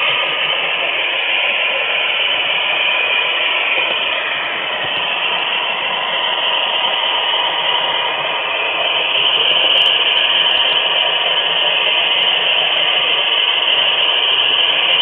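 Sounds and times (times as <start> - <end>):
faint whine: 0.0 - 15.0
model train car rolling on track: 0.0 - 15.0.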